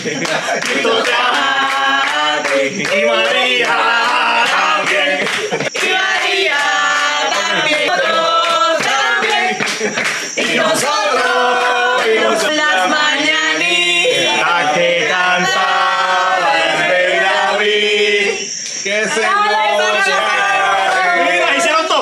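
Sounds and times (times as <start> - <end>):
voices singing a birthday song: 0.0 - 22.0.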